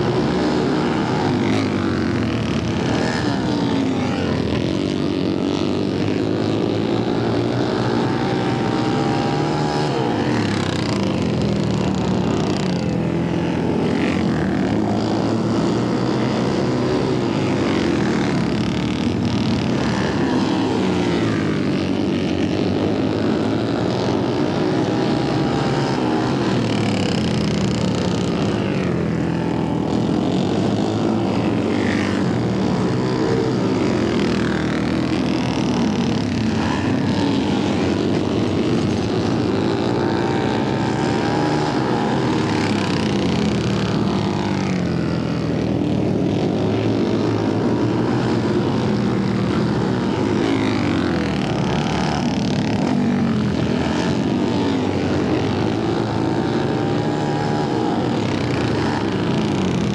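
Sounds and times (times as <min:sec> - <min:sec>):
racing motorcycle engines revving: 0:00.0 - 0:59.9.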